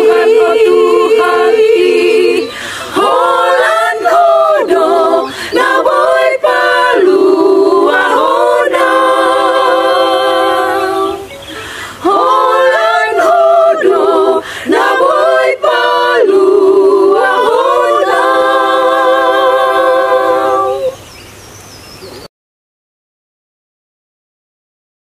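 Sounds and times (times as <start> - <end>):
women's choir singing a cappella: 0.0 - 21.0.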